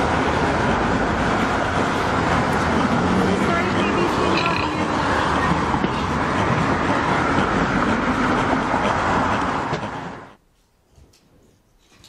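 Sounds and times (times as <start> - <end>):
road and vehicle noise over speakers: 0.0 - 12.0.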